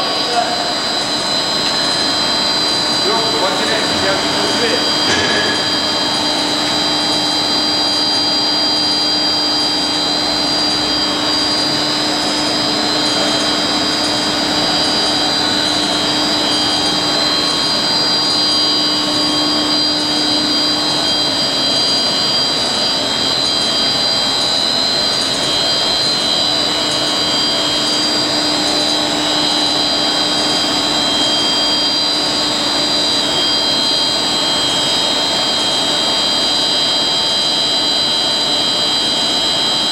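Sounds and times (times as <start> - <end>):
extrusion machine running: 0.0 - 39.9.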